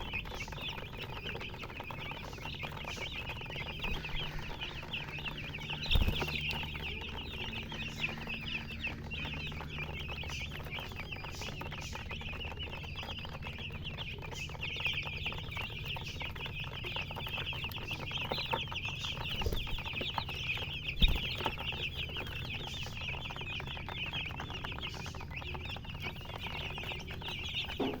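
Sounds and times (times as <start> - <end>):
baby chicks peeping: 0.0 - 28.0
low steady hum: 0.0 - 28.0.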